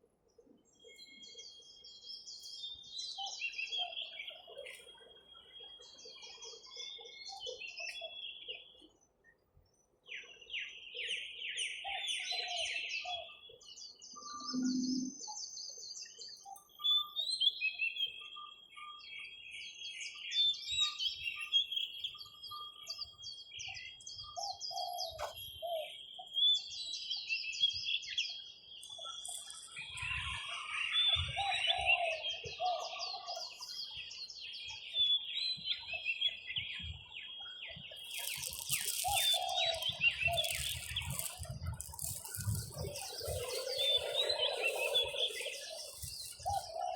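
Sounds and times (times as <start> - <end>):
birds chirping and trilling: 0.4 - 46.9.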